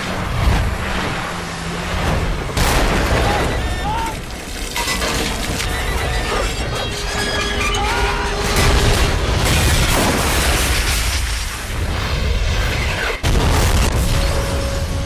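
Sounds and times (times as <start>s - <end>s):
helicopter crashing: 1.9s - 15.0s.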